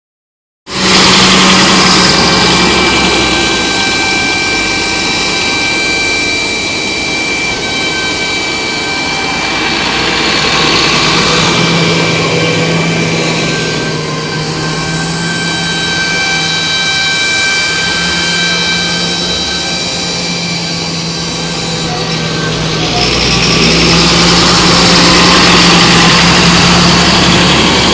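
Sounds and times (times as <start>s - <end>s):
high steady machinery whines: 0.7s - 27.9s
tractor engine drone: 0.7s - 27.9s.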